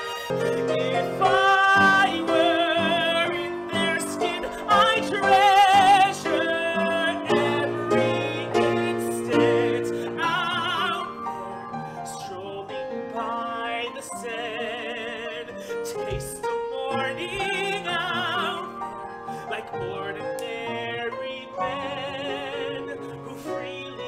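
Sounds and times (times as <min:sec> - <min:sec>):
instrumental accompaniment: 0:00.0 - 0:24.0
person singing with vibrato: 0:00.0 - 0:24.0.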